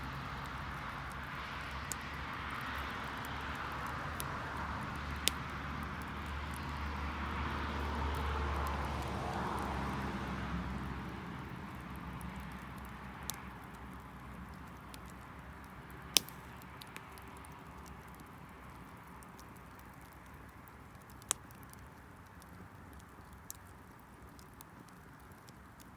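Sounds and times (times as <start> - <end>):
wood crackling pops: 0.4 - 6.9, 11.4 - 25.9.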